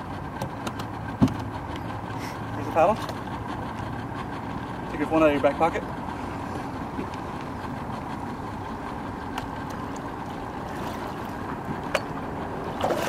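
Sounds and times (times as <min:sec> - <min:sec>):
light wind: 0:00.0 - 0:13.0
water: 0:00.0 - 0:13.0.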